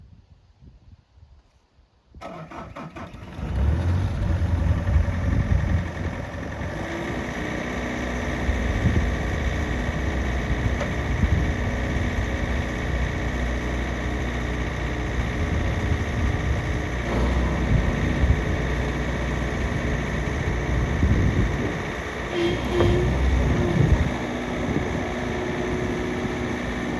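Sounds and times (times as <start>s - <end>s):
diesel engine starting and idling: 2.2s - 26.9s.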